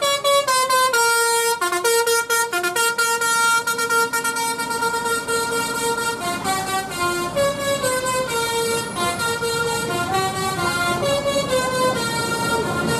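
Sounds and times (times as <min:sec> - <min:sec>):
bus horn playing a tune: 0:00.0 - 0:12.9
traffic noise: 0:00.0 - 0:12.9.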